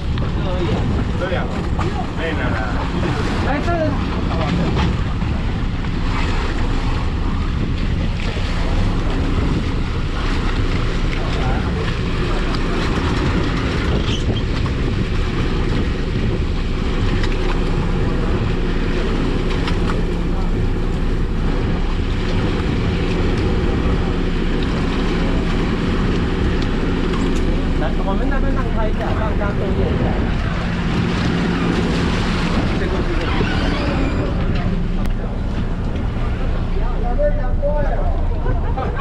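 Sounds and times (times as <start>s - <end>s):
boat engines running: 0.0s - 39.0s
water churning and sloshing: 0.0s - 39.0s
wind buffeting microphone: 0.0s - 39.0s.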